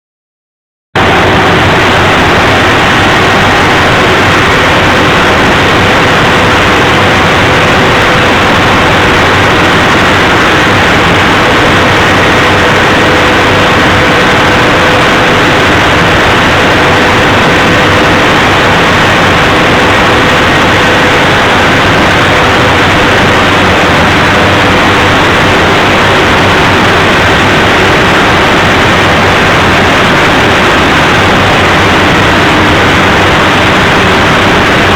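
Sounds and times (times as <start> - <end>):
diesel generator running: 1.0 - 34.9
faint steady whines: 1.0 - 34.9.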